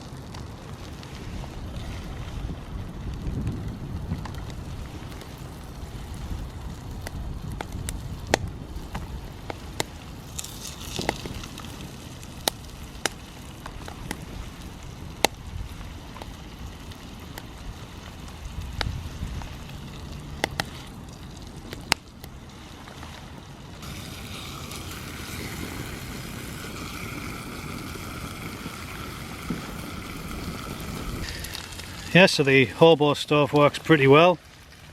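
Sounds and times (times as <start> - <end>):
low wind rumble: 0.0 - 34.9
wood fire crackling and popping: 0.0 - 34.9.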